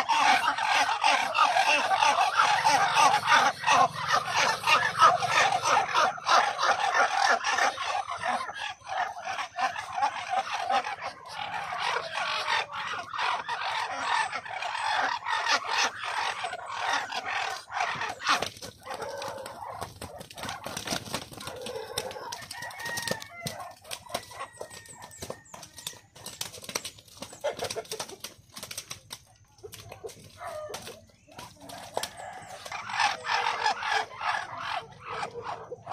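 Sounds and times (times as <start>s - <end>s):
fowl clucking and calling: 0.0s - 35.9s.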